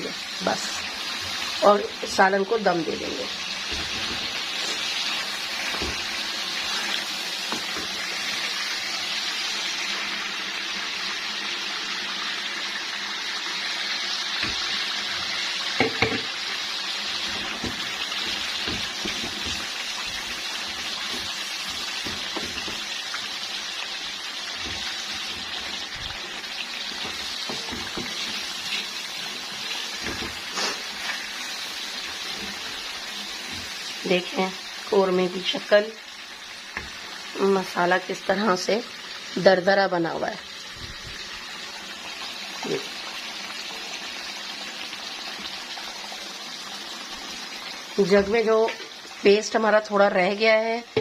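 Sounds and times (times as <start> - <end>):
food sizzling in pot: 0.0 - 51.0.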